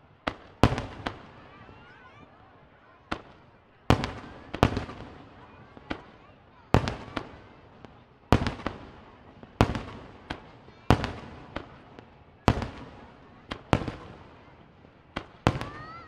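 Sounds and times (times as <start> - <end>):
fireworks bangs: 0.0 - 16.0
smaller fireworks pops: 0.0 - 16.0.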